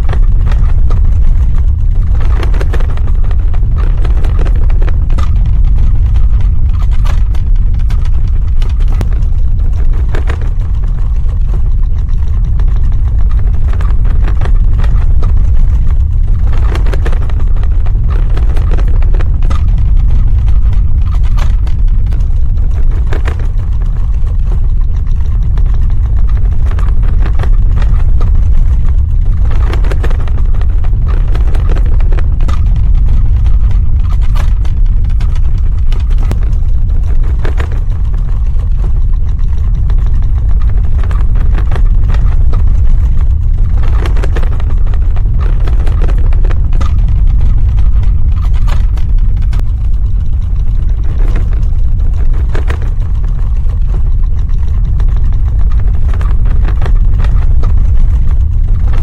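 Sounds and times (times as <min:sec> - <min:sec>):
crackling and rattling: 0:00.0 - 0:59.0
deep rumble: 0:00.0 - 0:59.0.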